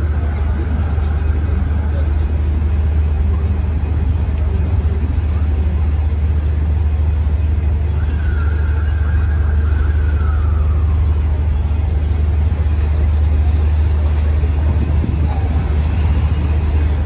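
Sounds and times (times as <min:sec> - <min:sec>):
engine rumble: 0:00.0 - 0:17.0
traffic noise: 0:00.0 - 0:17.0.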